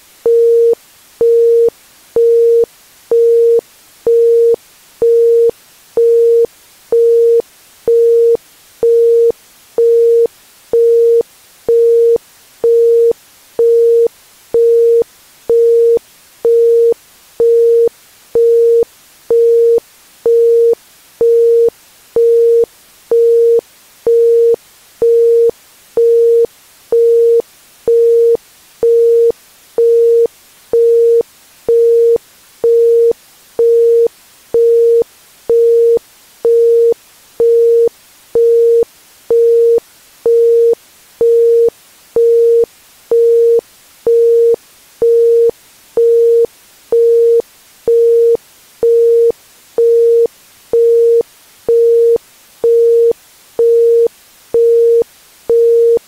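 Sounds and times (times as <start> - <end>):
faint hiss: 0.0 - 56.0.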